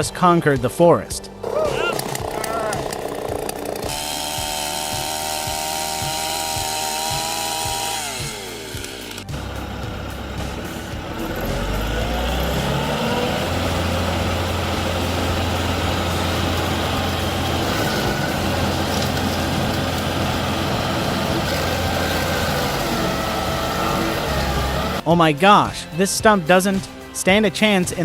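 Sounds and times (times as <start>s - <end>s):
heavy machine engine revving: 1.8s - 25.0s.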